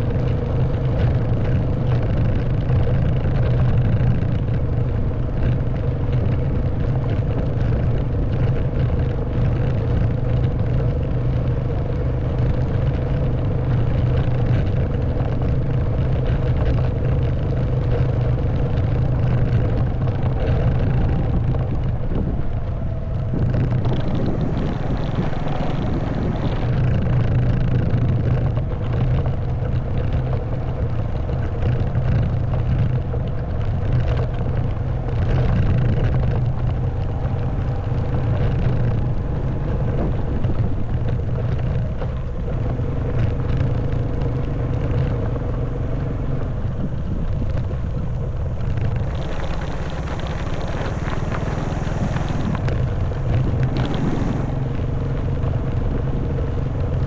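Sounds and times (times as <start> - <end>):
clicks and rattles over ground: 0.0 - 57.0
motorbike engine running: 0.0 - 57.0.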